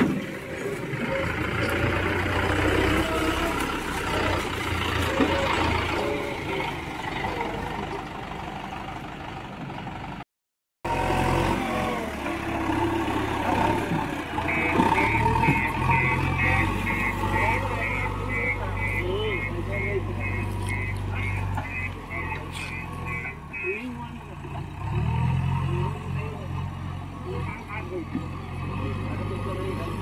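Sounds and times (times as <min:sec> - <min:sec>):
backhoe diesel engine running: 0:00.0 - 0:10.2, 0:10.8 - 0:30.0
tractor diesel engine running: 0:00.0 - 0:10.2, 0:10.8 - 0:30.0.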